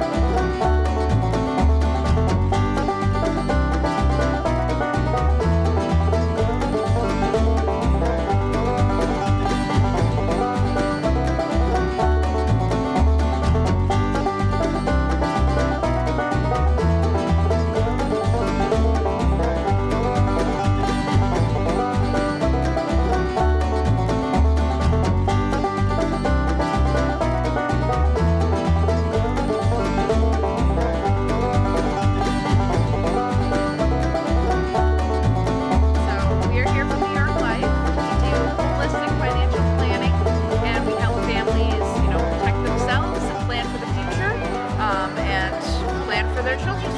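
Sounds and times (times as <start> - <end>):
bluegrass music with banjo: 0.0 - 46.9
steady bass beat: 0.0 - 46.9.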